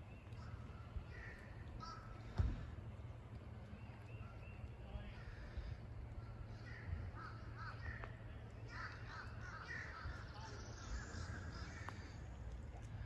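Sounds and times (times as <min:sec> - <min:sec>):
faint bird calls: 0:00.0 - 0:03.0, 0:03.6 - 0:13.0.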